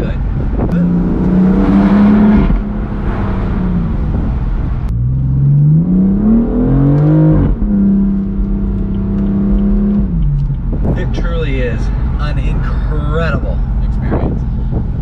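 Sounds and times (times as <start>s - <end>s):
car engine and exhaust accelerating: 0.0s - 15.0s.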